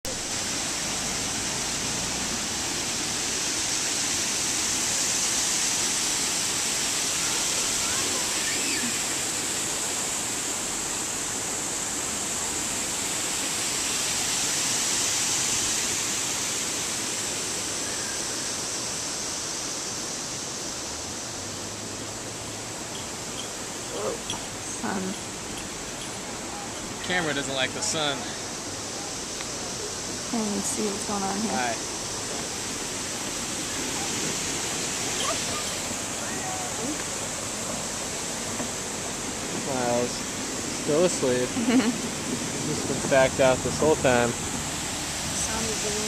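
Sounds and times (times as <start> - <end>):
waterfall and rapids rushing: 0.0 - 46.0.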